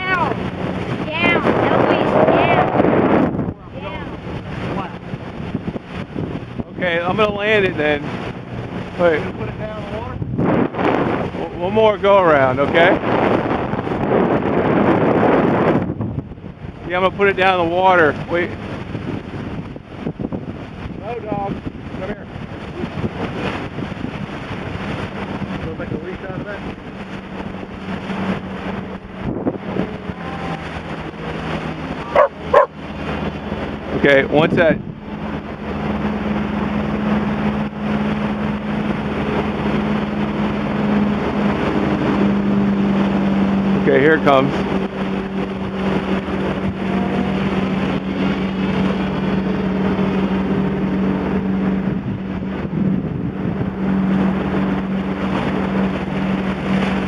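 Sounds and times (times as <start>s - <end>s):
boat motor running: 0.0s - 57.0s
wind on microphone: 0.0s - 57.0s.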